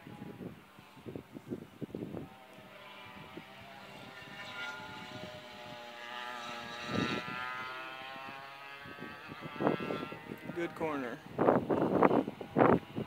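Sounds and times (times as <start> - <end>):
distant go-kart engine revving: 2.0 - 13.0.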